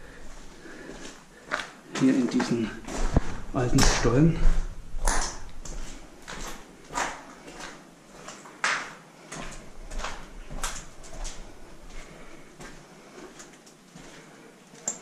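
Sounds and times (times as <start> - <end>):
footsteps scuffing on rough floor: 0.2 - 14.4.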